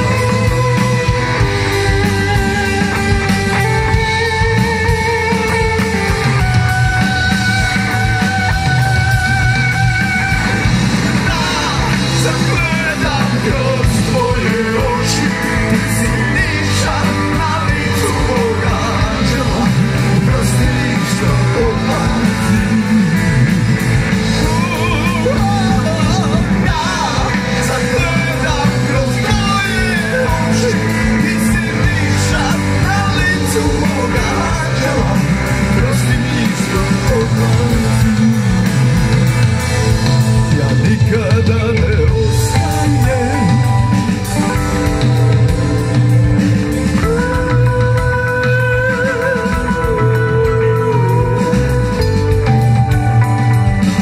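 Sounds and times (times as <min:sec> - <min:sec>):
live rock band playing: 0:00.0 - 0:54.0
person singing: 0:00.0 - 0:54.0.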